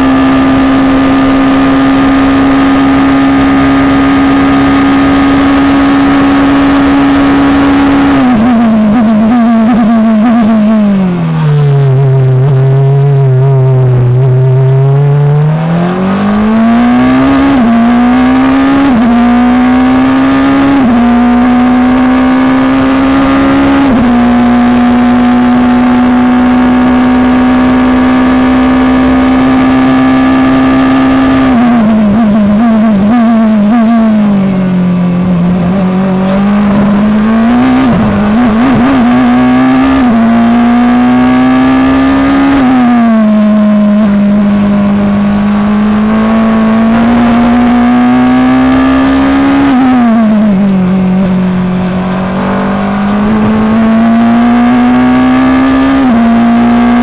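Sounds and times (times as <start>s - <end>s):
racing car engine at full throttle: 0.0s - 57.0s.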